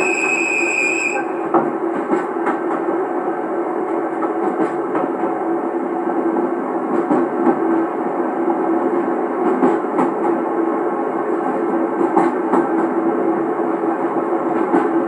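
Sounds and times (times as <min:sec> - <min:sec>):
train rolling rumble and drone: 0:00.0 - 0:15.0.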